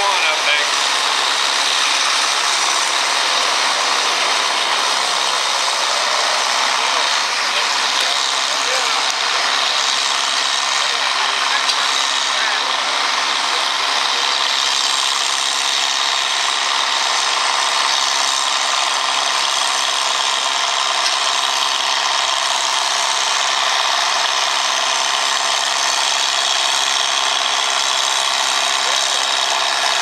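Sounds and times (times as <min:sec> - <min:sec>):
tractor engine buzzy drone: 0:00.0 - 0:30.0.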